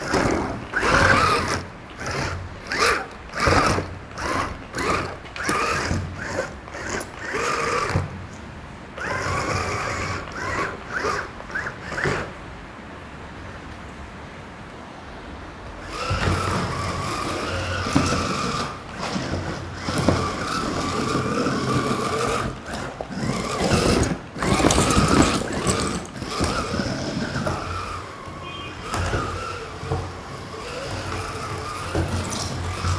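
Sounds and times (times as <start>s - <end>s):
small electric motors whining: 0.0s - 8.2s, 9.0s - 12.4s, 15.8s - 32.9s
gear and track rattle: 0.0s - 12.4s, 15.8s - 32.9s.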